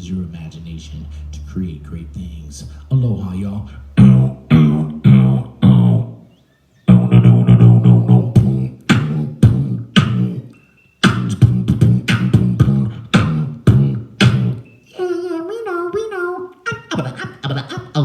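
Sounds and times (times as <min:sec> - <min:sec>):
beatboxing: 0:00.0 - 0:18.0.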